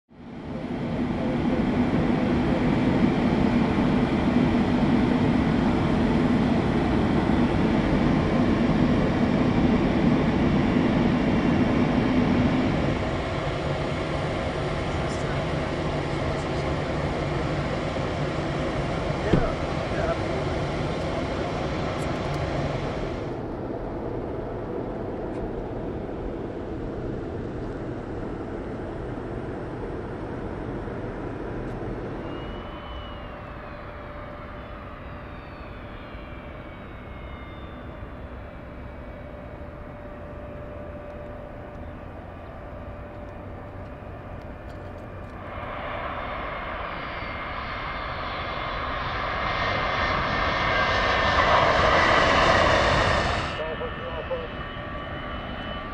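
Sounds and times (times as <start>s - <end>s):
jet engines rolling by: 0.1s - 55.9s.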